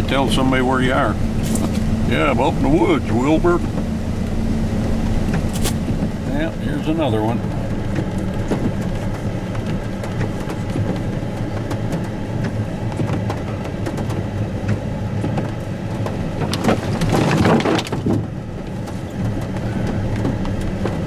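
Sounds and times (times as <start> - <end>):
rain ticking: 0.0 - 21.0
truck engine running: 0.0 - 21.0.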